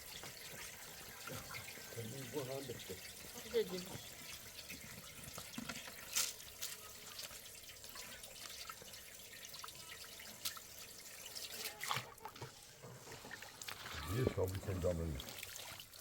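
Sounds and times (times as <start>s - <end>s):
water trickling and dripping: 0.0s - 16.0s
light clicks and splashes: 3.0s - 16.0s.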